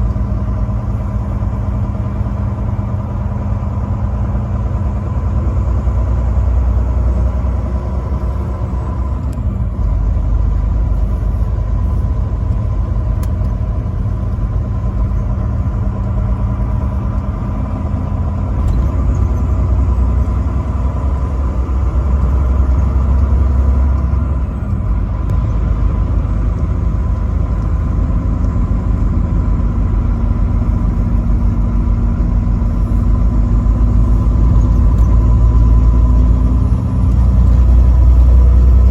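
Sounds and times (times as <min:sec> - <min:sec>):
road noise: 0:00.0 - 0:38.9
truck engine rumble: 0:00.0 - 0:38.9.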